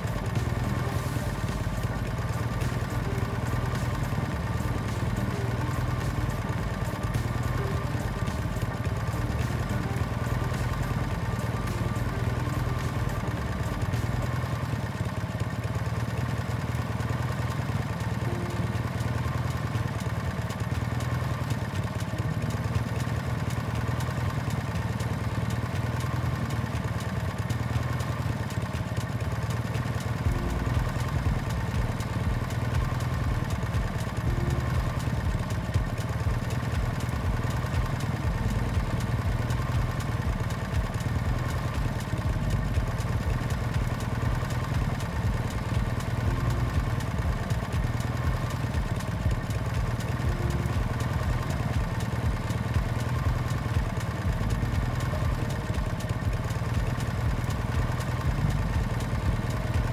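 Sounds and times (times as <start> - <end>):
motorbike engine running steadily: 0.0 - 59.9.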